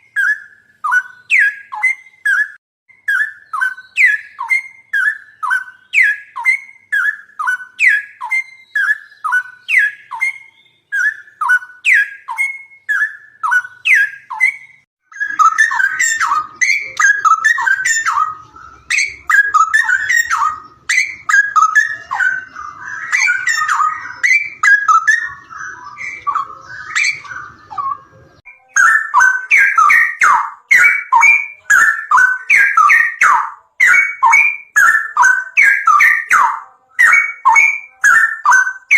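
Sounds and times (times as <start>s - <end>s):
songbird calling: 0.0s - 38.9s.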